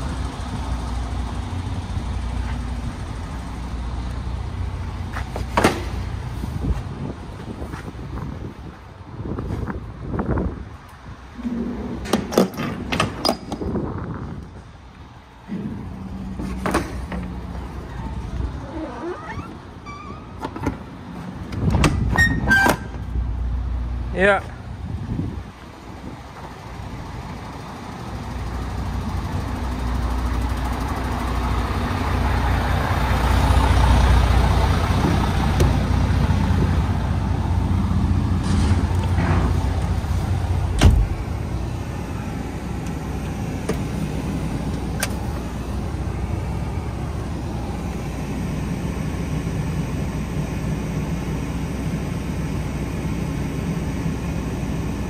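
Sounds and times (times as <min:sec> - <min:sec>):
diesel truck engine running: 0:00.0 - 0:55.0
road noise: 0:00.0 - 0:55.0.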